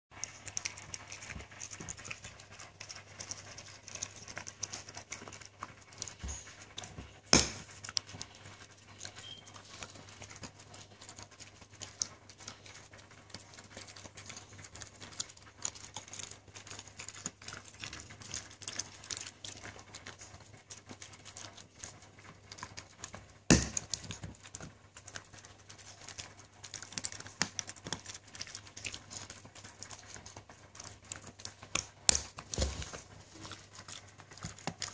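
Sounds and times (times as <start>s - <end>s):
dog gnawing a hard chew: 0.1s - 34.9s.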